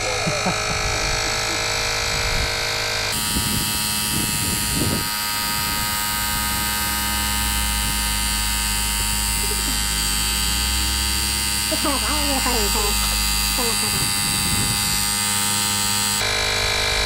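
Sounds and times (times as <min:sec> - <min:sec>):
electric tyre inflator buzzing: 0:00.0 - 0:17.0.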